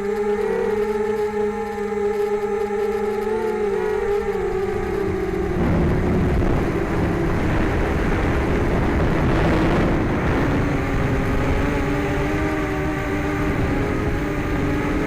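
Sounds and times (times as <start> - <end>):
drone motors whining: 0.0 - 15.0
rushing noise: 0.0 - 15.0.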